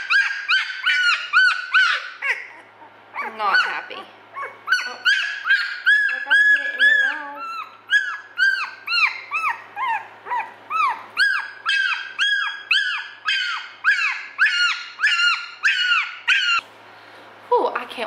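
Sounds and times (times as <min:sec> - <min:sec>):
puppy crying: 0:00.0 - 0:16.6.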